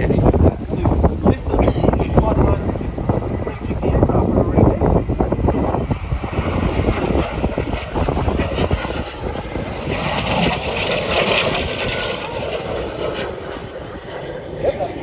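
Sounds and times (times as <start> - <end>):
airplane engine and propeller: 0.0 - 15.0.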